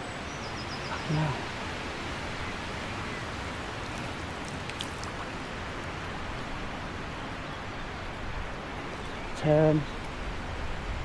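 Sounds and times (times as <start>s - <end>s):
rushing wind: 0.0s - 11.0s.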